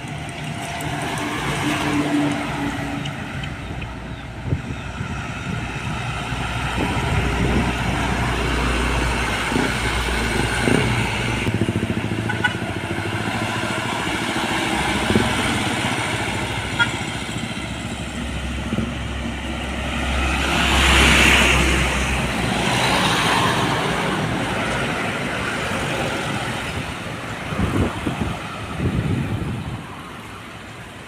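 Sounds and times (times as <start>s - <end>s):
heavy vehicle engine rumble: 0.0s - 31.0s
road traffic passing: 0.0s - 31.0s.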